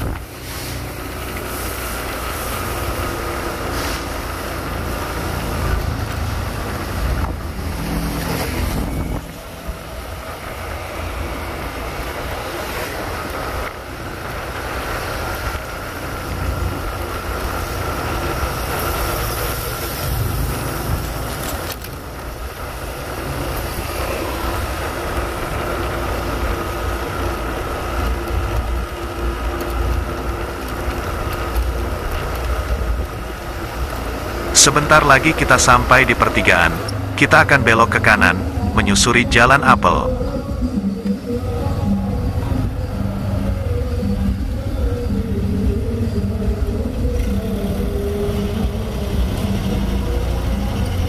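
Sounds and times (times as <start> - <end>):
wind rumble on microphone: 0.0 - 34.6, 40.0 - 51.0
motorbike passing: 0.0 - 51.0
vehicle engine and road noise: 0.0 - 51.0.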